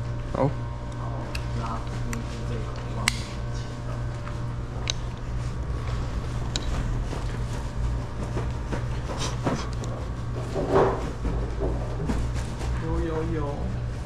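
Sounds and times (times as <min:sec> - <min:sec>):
equipment humming: 0:00.0 - 0:14.0.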